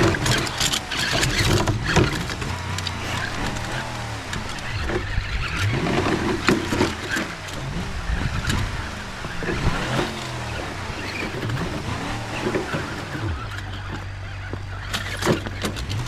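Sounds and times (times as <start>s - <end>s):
sharp clicks and knocks: 0.0s - 16.0s
truck engine revving: 0.0s - 16.0s.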